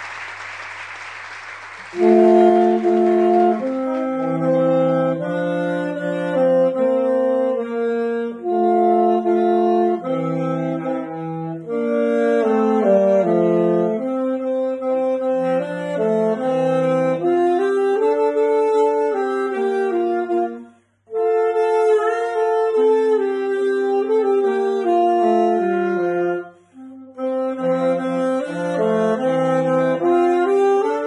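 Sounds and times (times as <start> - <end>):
saxophone duet: 0.0 - 31.0.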